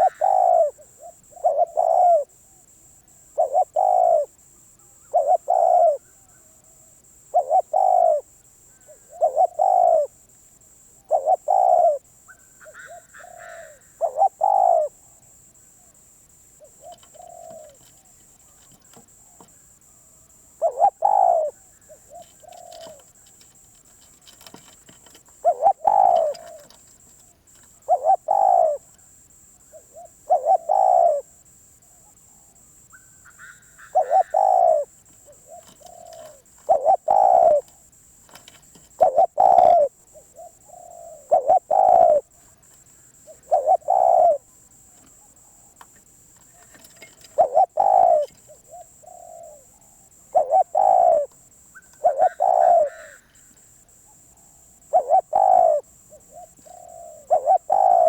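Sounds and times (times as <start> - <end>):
dove cooing: 0.0 - 10.2, 10.9 - 15.2, 16.6 - 45.8, 46.4 - 58.0.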